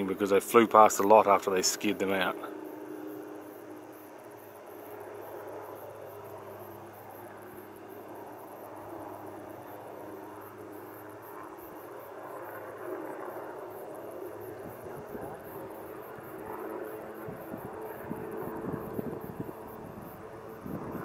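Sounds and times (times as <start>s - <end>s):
distant helicopter drone: 0.0s - 21.0s
insects chirping: 0.0s - 21.0s.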